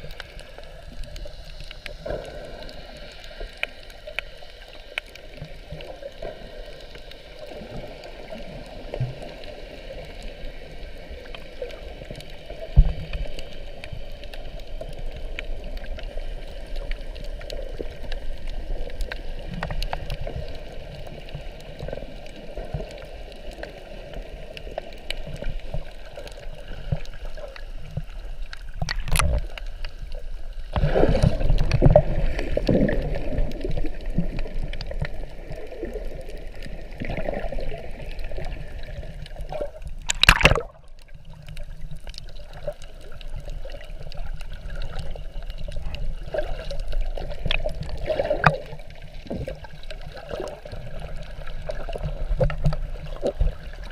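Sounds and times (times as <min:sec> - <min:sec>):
underwater gurgling and sloshing: 0:00.0 - 0:53.9.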